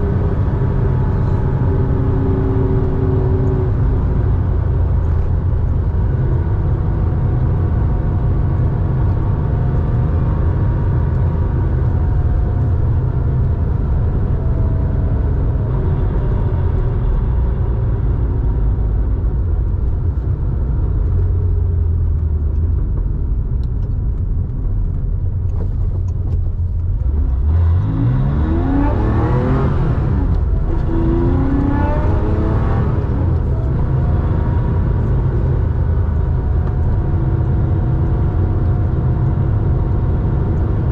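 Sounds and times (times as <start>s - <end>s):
car engine droning and revving: 0.0s - 40.9s.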